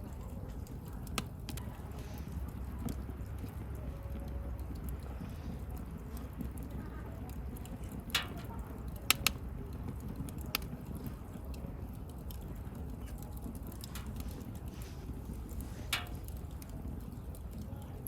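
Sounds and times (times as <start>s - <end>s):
flames burning steadily: 0.0s - 18.0s
wood fire popping: 0.0s - 18.0s.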